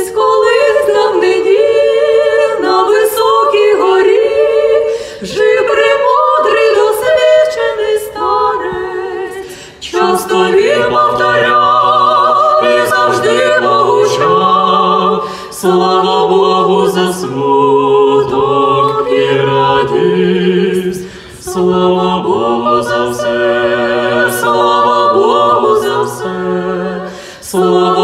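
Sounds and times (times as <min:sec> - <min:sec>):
women singing in harmony: 0:00.0 - 0:28.0.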